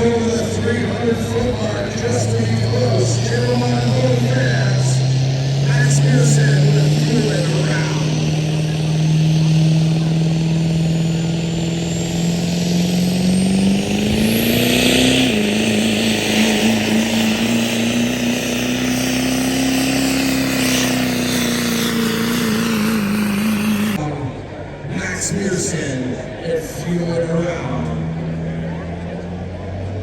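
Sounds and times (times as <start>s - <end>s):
truck engine revving under load: 0.0s - 24.2s.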